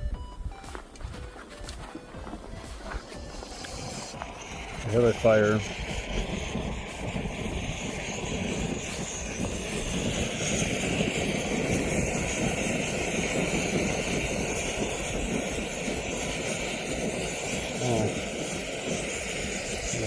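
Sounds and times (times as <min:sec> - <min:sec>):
stove flame rushing: 0:02.0 - 0:20.0.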